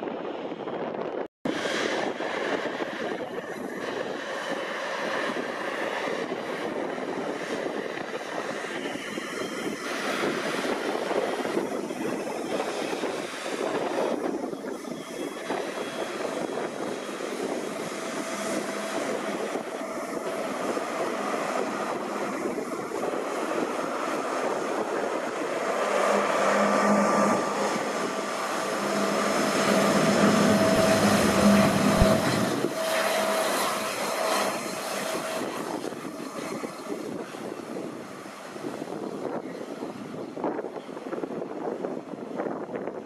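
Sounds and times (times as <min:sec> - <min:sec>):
airliner engine rush: 0:00.0 - 0:43.0.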